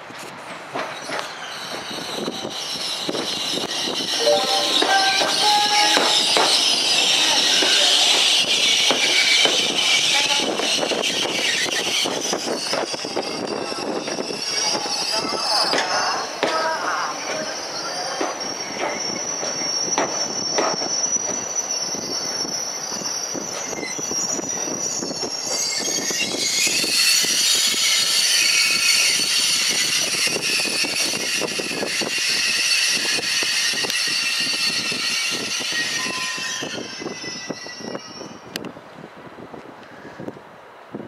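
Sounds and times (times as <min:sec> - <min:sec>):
train wheels squealing on rails: 0:00.2 - 0:38.8, 0:39.6 - 0:40.4.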